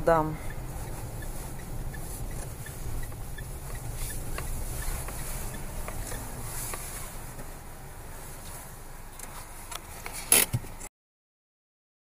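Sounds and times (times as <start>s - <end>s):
turn signal relay ticking: 0.0s - 9.8s
car engine and road rumble: 0.0s - 10.9s.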